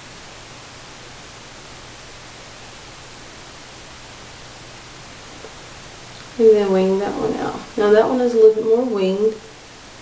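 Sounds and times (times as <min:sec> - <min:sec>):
faint low hum: 0:00.0 - 0:10.0
steady hiss: 0:00.0 - 0:10.0.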